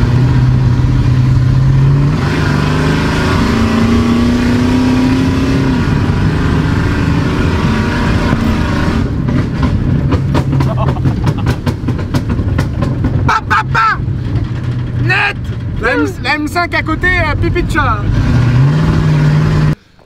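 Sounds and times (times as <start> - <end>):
loud truck engine accelerating: 0.0 - 19.8.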